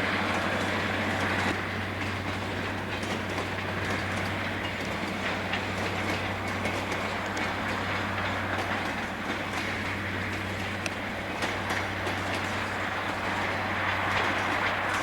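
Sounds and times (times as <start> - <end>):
freight train rumbling past: 0.0 - 15.0
wheels clicking over rail joints: 0.0 - 15.0.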